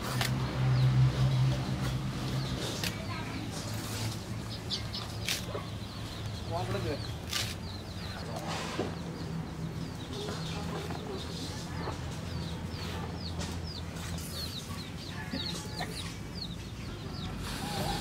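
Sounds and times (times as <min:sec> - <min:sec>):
chickens peeping and clucking: 0:00.0 - 0:18.0.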